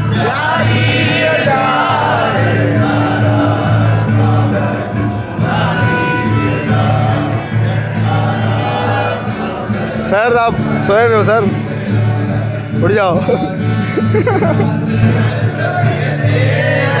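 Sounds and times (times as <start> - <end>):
acoustic guitar: 0.0 - 17.0
man singing through pa system: 0.0 - 17.0.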